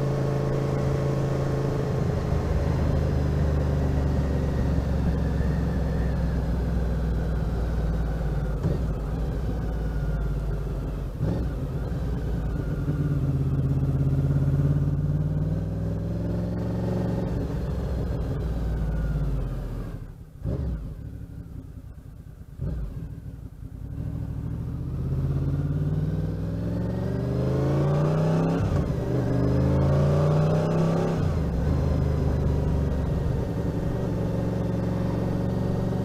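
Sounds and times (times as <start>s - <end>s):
motorcycle engine revving: 0.0s - 21.9s, 22.6s - 36.0s.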